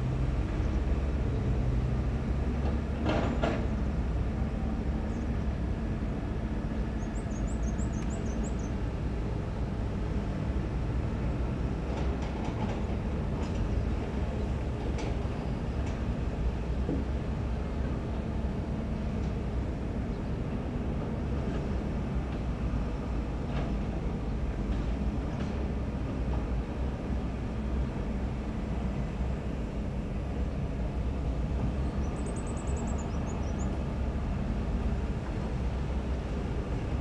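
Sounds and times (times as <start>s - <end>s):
diesel machinery engine rumble: 0.0s - 37.0s.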